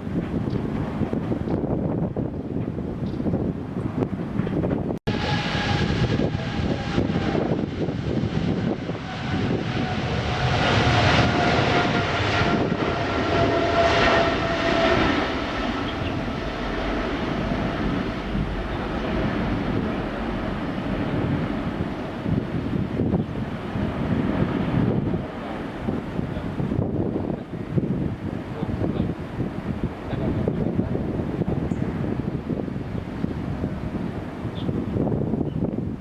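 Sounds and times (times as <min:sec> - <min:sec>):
jet engines on takeoff: 0:00.0 - 0:36.0.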